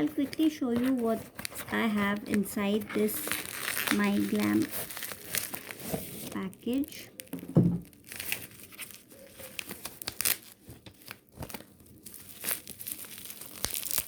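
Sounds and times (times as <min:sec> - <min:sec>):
packaging torn and crinkled: 0:00.0 - 0:14.0.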